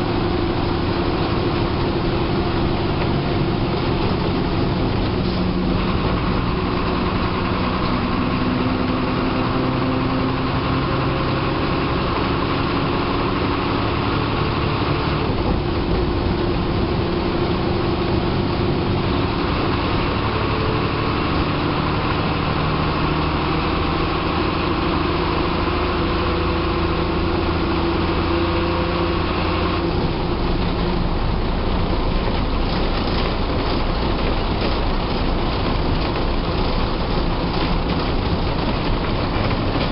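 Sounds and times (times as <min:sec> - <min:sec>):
bus diesel engine running: 0:00.0 - 0:39.9
road noise: 0:00.0 - 0:39.9.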